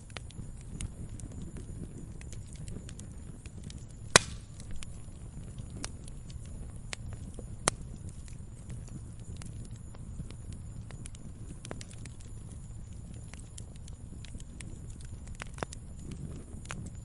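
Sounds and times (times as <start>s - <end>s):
log fire crackling: 0.0s - 17.0s
loud fire pops: 0.0s - 17.0s
low rumble of burning: 0.0s - 17.0s.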